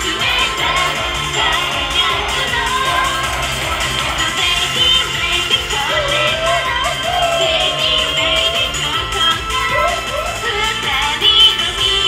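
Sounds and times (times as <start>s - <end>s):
pop backing track with beat: 0.0s - 12.0s
women singing into microphones: 0.0s - 12.0s.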